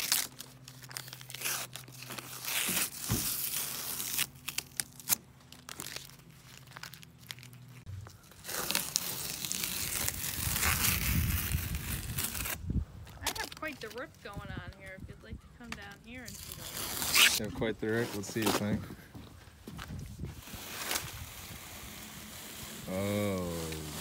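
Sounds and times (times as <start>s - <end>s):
masking tape peeling: 0.0s - 14.1s, 16.3s - 18.8s, 20.3s - 24.0s.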